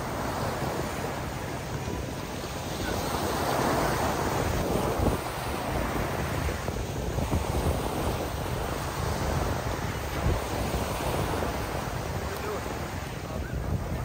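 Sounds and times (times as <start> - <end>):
surf waves breaking on beach: 0.0 - 14.0
wind buffeting microphone: 0.0 - 14.0.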